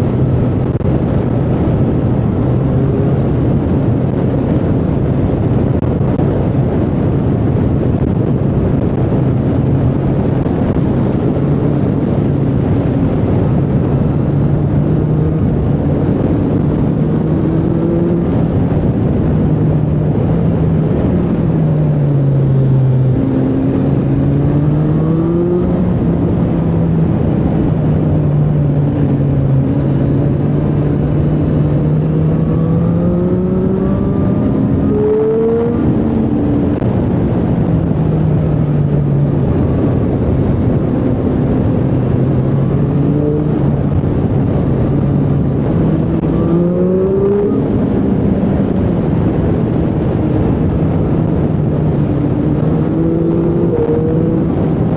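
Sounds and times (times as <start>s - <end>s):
motorcycle engine revving: 9.9s - 54.9s.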